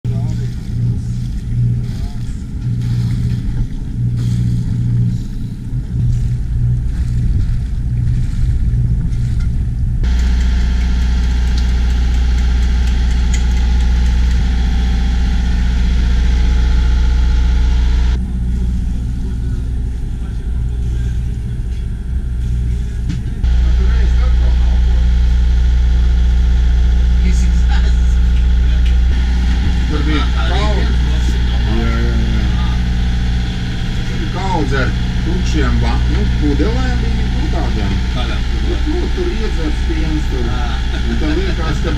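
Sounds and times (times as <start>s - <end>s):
boat engine humming: 0.0s - 41.9s
deep engine rumble with hiss: 0.0s - 41.9s.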